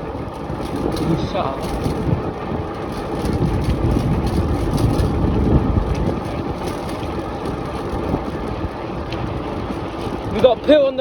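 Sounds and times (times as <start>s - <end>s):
bicycle rattling: 0.0s - 11.0s
tyres rumbling on muddy track: 0.0s - 11.0s.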